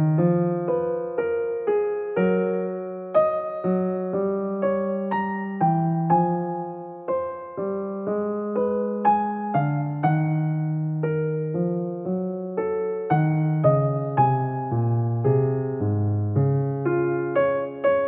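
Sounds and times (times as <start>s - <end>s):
slow gentle piano melody: 0.0s - 18.0s.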